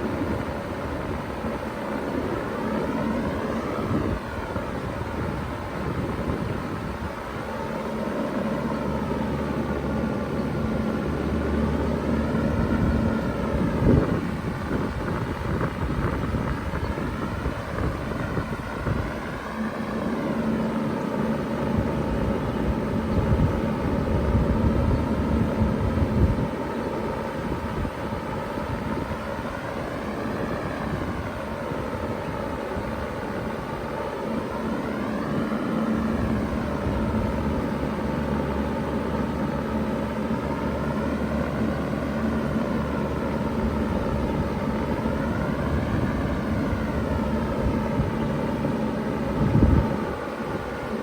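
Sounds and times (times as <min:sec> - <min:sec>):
compressor low hum: 0:00.0 - 0:51.0
fan air rushing: 0:00.0 - 0:51.0.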